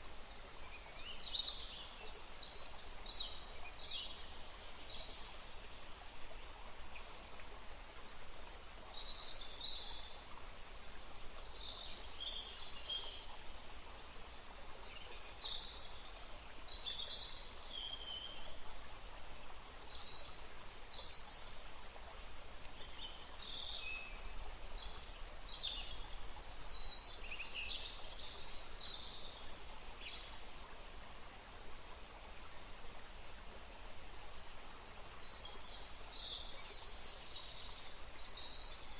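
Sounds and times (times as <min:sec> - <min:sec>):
running water: 0:00.0 - 0:38.9
wind in trees: 0:00.0 - 0:38.9.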